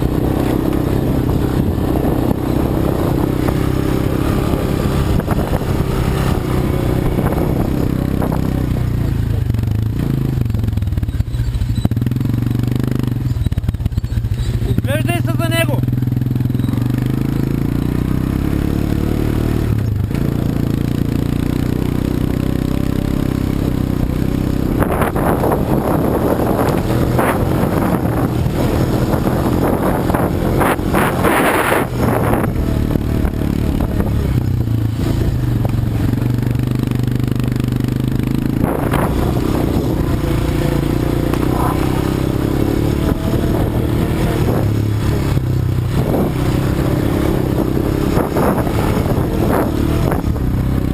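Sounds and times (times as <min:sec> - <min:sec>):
atv engine running: 0:00.0 - 0:50.9.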